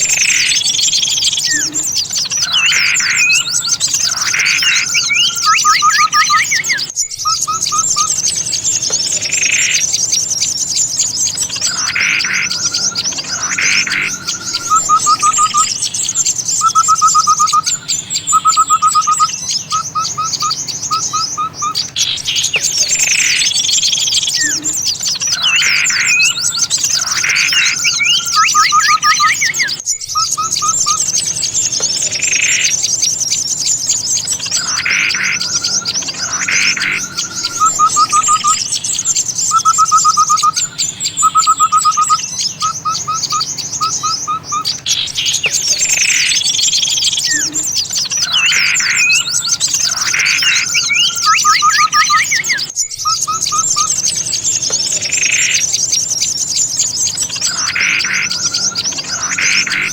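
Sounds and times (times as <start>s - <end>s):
rapid bird trills: 0.0s - 59.9s
songbirds chattering and calling: 0.0s - 59.9s
whistled bird calls: 0.0s - 59.9s.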